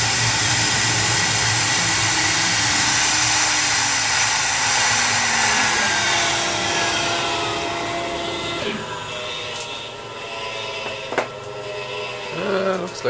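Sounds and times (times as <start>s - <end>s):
router spindle winding down: 0.0s - 13.0s.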